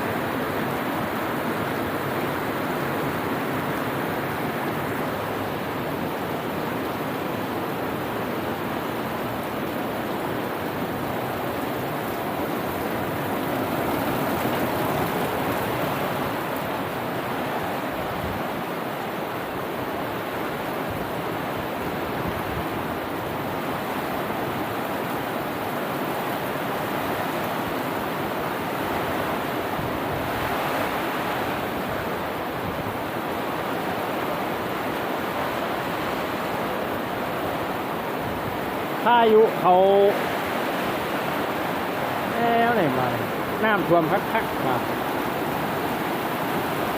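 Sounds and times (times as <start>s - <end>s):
heavy rain and rushing floodwater: 0.0s - 46.9s.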